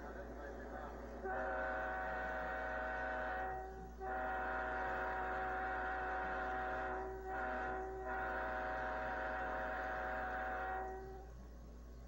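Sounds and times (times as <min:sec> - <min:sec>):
low electrical hum: 0:00.0 - 0:12.0
train horn blasts: 0:01.2 - 0:11.4.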